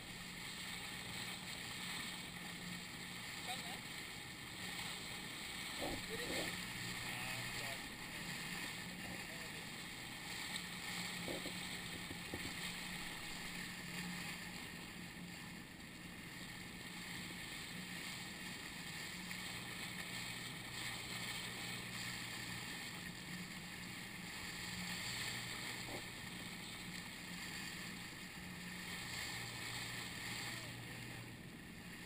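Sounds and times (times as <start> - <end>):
outboard motor humming: 0.0 - 32.0
wind and water hissing: 0.0 - 32.0.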